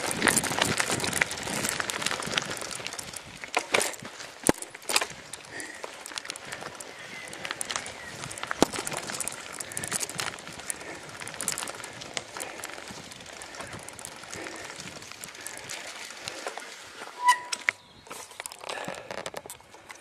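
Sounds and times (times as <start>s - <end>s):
bicycle rolling over grass: 0.0s - 20.0s.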